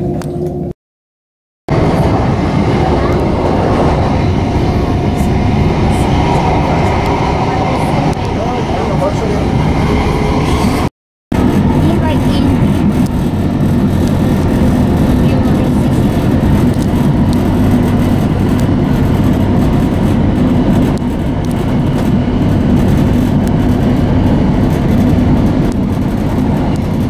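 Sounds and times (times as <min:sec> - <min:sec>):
electric train rumbling: 0:01.7 - 0:27.0.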